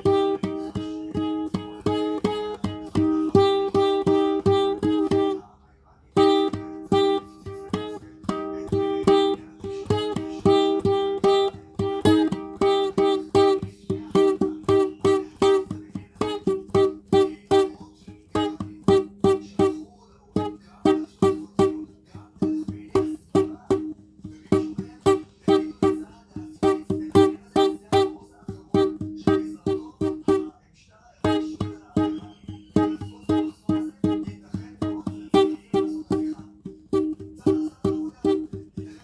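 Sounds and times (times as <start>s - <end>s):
plucked solo guitar: 0.0s - 5.4s, 6.2s - 30.6s, 31.2s - 39.0s.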